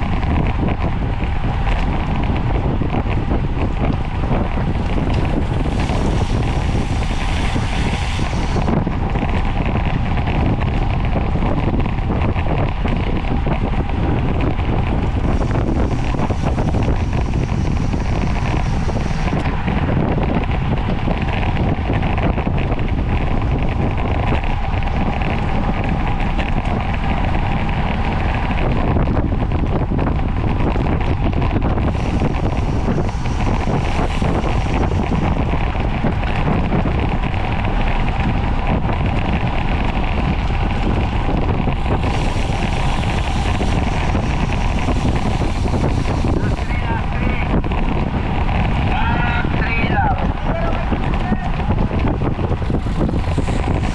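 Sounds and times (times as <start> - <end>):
wind rushing on microphone: 0.0 - 53.9.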